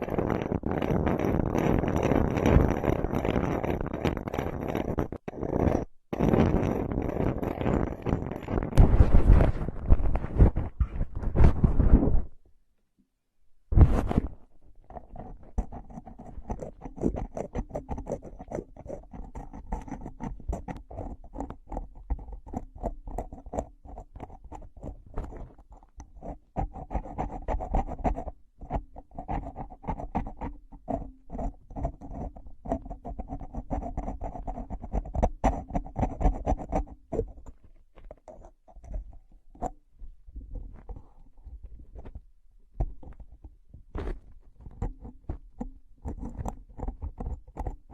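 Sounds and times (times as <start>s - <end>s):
rapid tapping and scratching: 0.0s - 12.3s, 13.7s - 47.9s.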